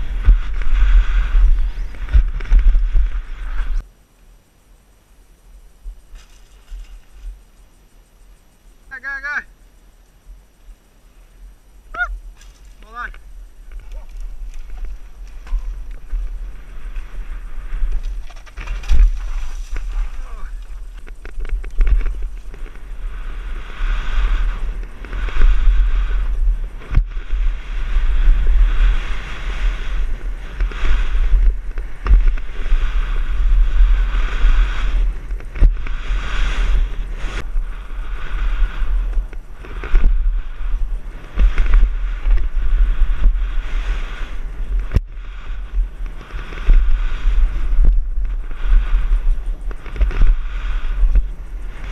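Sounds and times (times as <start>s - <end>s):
wind buffeting microphone: 0.0s - 3.9s, 9.8s - 51.9s.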